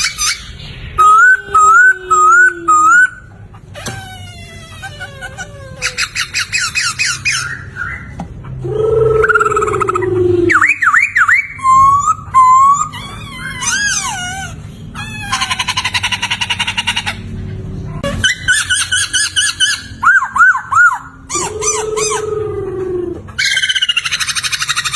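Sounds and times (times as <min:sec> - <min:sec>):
laughingthrush singing: 0:00.0 - 0:24.9.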